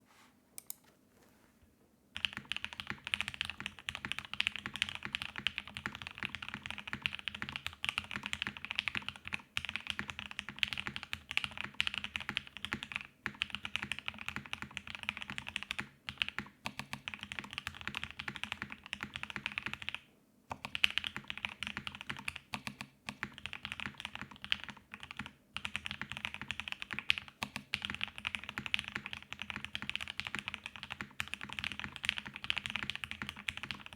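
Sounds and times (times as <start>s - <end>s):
typing on mechanical keyboard: 2.2s - 33.9s.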